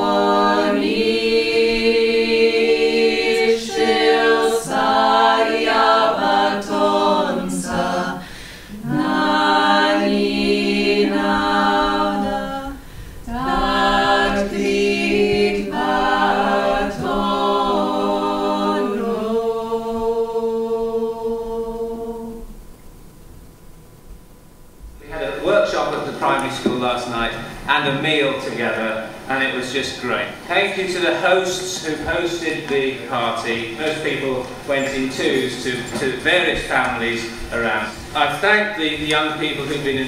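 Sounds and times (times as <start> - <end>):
vocal ensemble singing polyphony: 0.0 - 22.7, 25.0 - 40.0.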